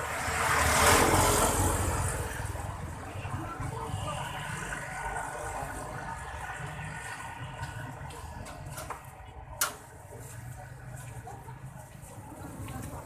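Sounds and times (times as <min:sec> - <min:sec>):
faint crowd chatter: 0:00.0 - 0:13.0
low street rumble: 0:00.0 - 0:13.0.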